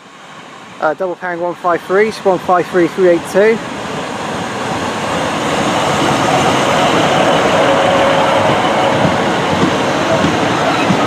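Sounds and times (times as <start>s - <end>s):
diesel railcar engine: 0.0s - 11.0s
wheels rushing on rail: 0.0s - 11.0s.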